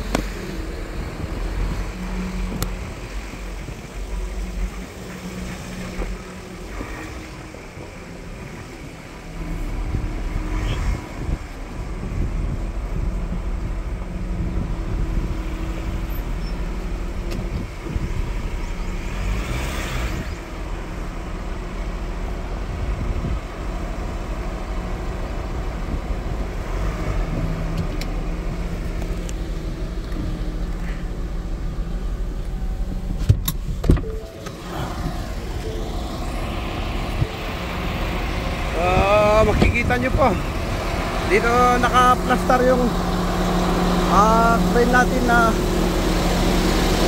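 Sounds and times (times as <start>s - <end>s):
vehicle engine and tyre rumble: 0.0s - 47.0s.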